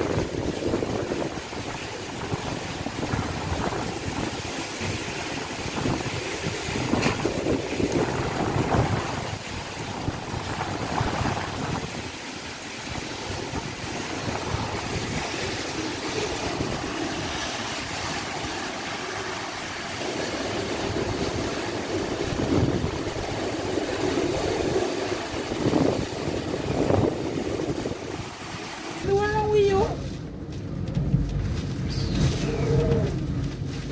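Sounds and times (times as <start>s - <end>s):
gusts buffeting microphone: 0.0s - 33.9s
wind and heavy rain: 0.0s - 33.9s.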